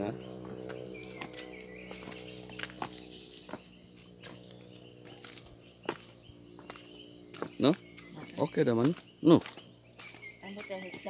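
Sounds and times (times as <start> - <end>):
insects trilling: 0.0 - 11.0
footsteps on concrete steps: 0.4 - 11.0.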